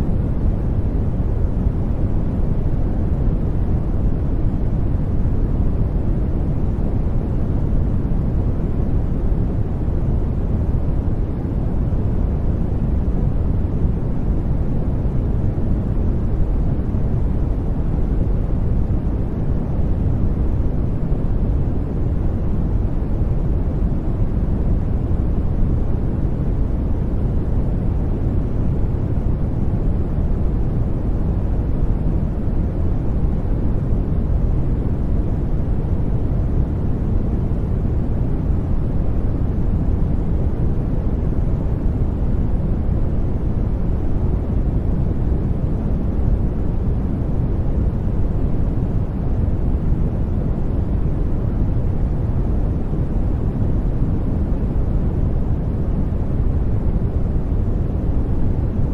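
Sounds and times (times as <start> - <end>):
brown noise rumble: 0.0 - 58.9.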